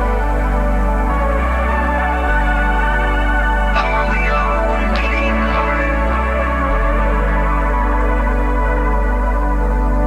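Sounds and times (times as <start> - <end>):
steady bass line: 0.0 - 10.0
sustained synth chords: 0.0 - 10.0
synthwave music: 0.0 - 10.0.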